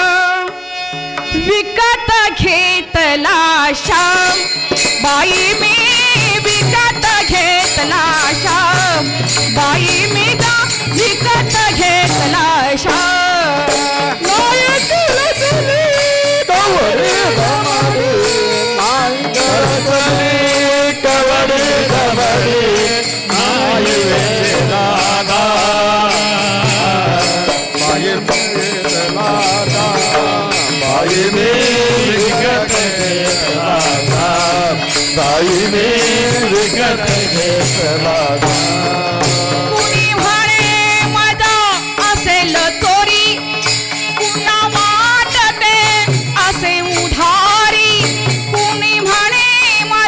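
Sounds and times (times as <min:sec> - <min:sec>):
steady percussion beat: 0:03.8 - 0:50.0.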